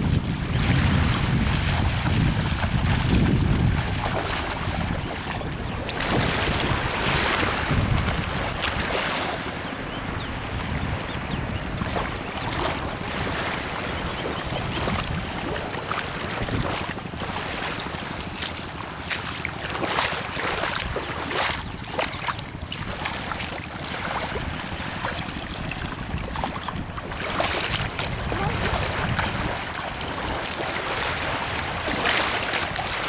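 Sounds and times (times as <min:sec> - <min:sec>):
river water lapping: 0:00.0 - 0:33.0
wind rumbling on microphone: 0:00.0 - 0:33.0
splashes from wading: 0:00.1 - 0:09.7, 0:11.6 - 0:33.0.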